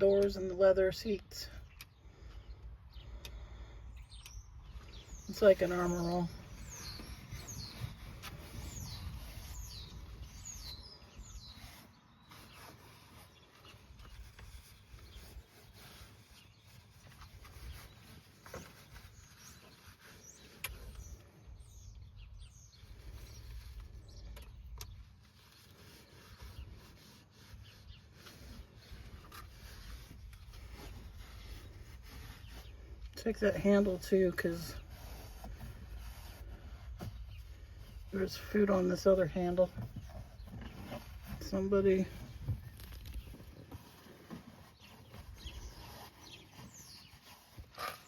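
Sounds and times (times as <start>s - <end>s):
small bird chirping: 1.6s - 35.5s, 37.0s - 48.0s.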